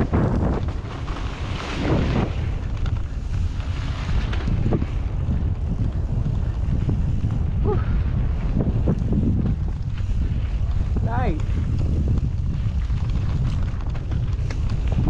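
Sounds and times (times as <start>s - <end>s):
bike rattling: 0.0s - 15.0s
tyres rumbling on dirt trail: 0.0s - 15.0s
wind buffeting microphone: 0.0s - 15.0s.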